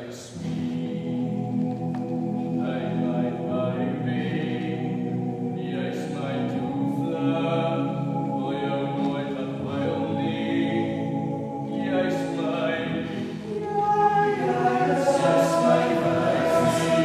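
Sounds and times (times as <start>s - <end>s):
men singing a cappella: 2.6s - 17.0s.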